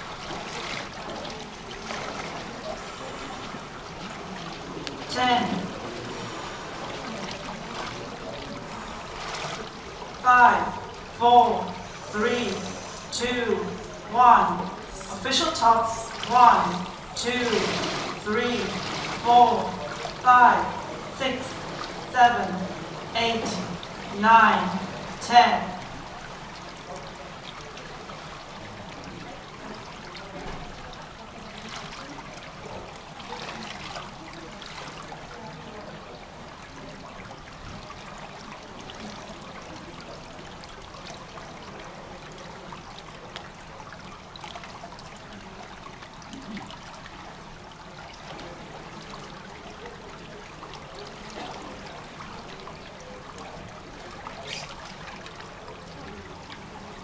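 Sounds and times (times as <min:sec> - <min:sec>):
water trickling into gutter: 0:00.0 - 0:57.0.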